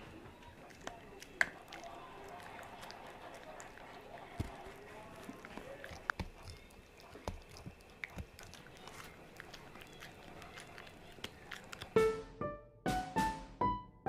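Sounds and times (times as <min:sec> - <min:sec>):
dog gnawing chew stick: 0:00.0 - 0:12.0.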